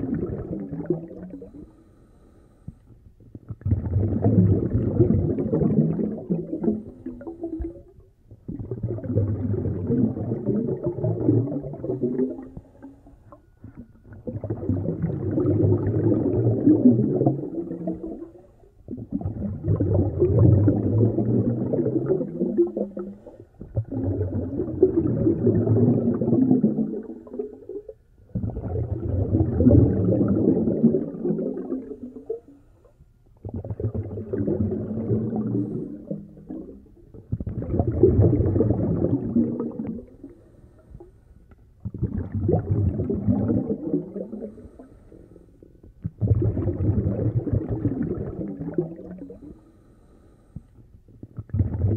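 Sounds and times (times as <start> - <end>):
regulator bubbling underwater: 0.0 - 1.8, 3.2 - 41.1, 41.7 - 50.3, 51.2 - 51.9.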